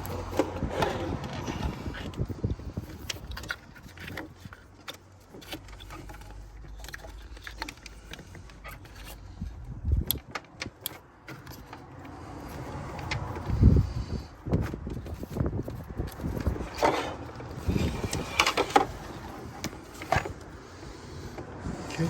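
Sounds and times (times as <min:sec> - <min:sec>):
parts and tools clicking and rattling: 0:00.0 - 0:22.0.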